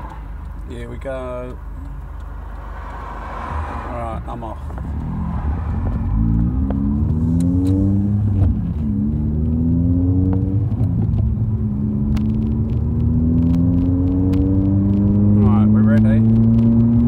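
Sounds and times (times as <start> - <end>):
car engine accelerating hard: 1.2 - 17.0.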